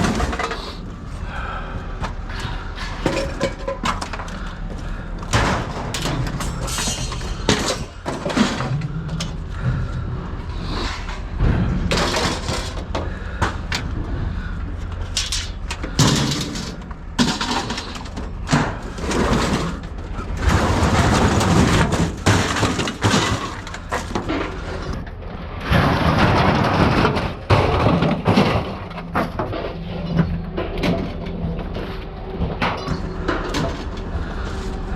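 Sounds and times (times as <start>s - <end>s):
low engine hum: 0.0s - 22.8s, 28.6s - 34.9s
scrap metal clanking and crashing: 0.0s - 34.9s.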